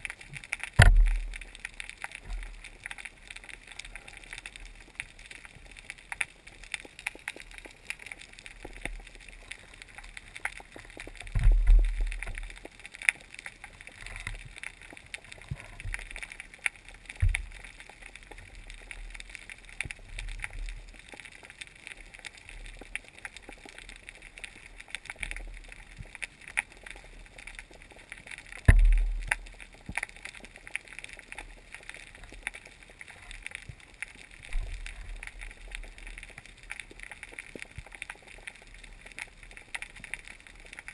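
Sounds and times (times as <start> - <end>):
underwater crackle of clicks: 0.0 - 40.9.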